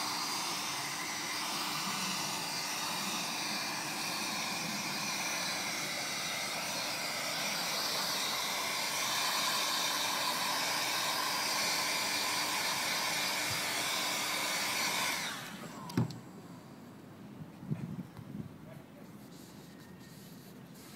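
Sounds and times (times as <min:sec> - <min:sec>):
heat gun fan whirring: 0:00.0 - 0:17.1.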